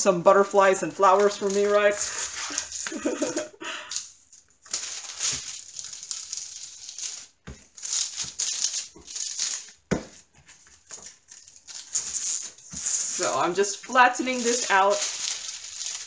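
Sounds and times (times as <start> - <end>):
plastic film crinkling: 0.3 - 16.0.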